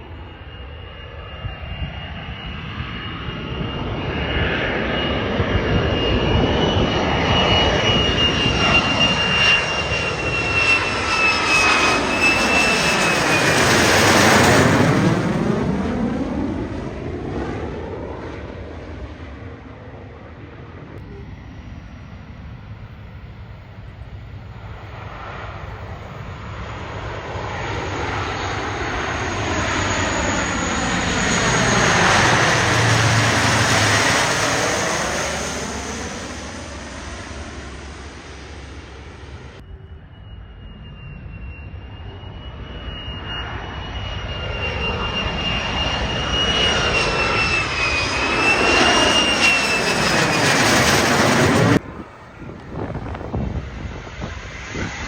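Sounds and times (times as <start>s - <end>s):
fighter jet passing overhead: 0.0s - 55.0s
high-pitched jet whine: 0.0s - 55.0s.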